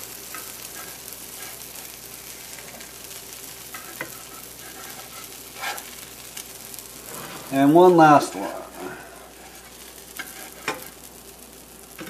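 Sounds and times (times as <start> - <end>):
pancakes sizzling in a pan: 0.0 - 12.0.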